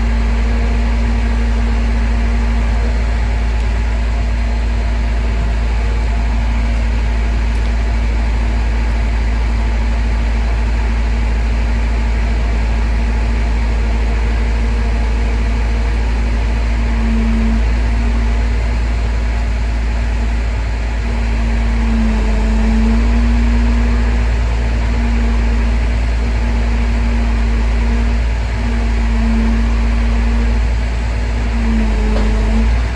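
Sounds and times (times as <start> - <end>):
crane truck engine running: 0.0 - 32.9.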